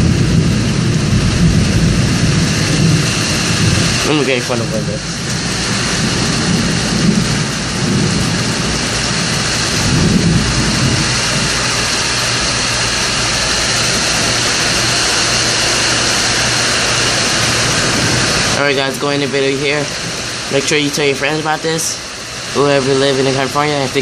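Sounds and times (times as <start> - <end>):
heavy rain pouring: 0.0 - 24.0
thunder rumbling: 0.0 - 24.0.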